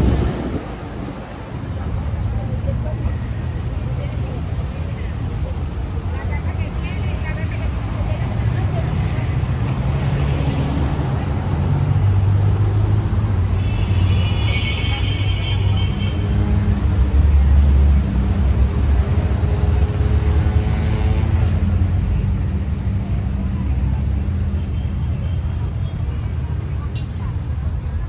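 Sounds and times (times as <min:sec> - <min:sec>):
traffic engine rumble: 0:00.0 - 0:28.0.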